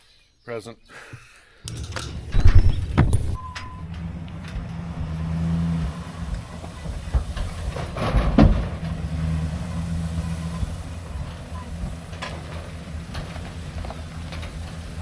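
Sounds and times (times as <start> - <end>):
trailer metal rattling and clanking: 1.7 - 15.0
truck engine running: 1.7 - 15.0.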